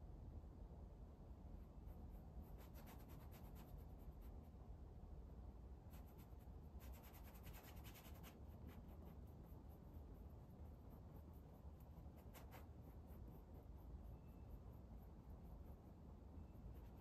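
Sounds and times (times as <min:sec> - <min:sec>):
low room hum: 0:00.0 - 0:17.0
paintbrush scratching on canvas: 0:01.6 - 0:04.5, 0:05.9 - 0:17.0.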